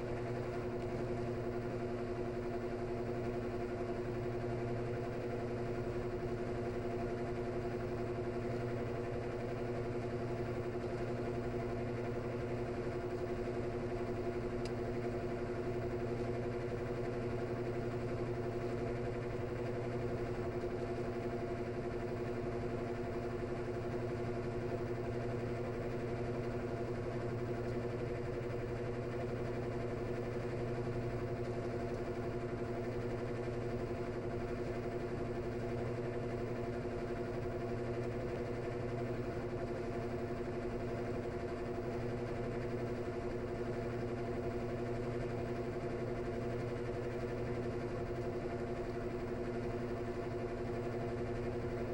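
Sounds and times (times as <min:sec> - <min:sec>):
washing machine drain pump humming: 0:00.0 - 0:51.9.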